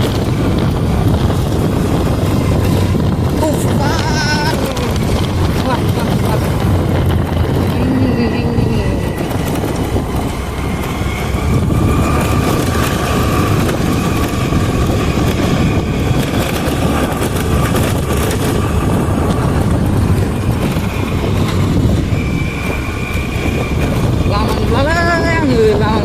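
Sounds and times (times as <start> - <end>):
vehicle road and engine noise: 0.0 - 26.0.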